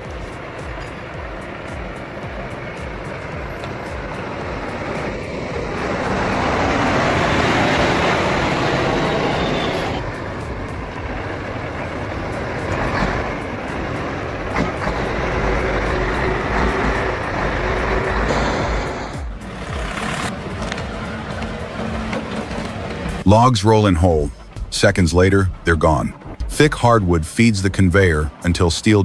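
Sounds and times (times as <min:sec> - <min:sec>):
heavy machinery grinding: 0:00.0 - 0:23.3.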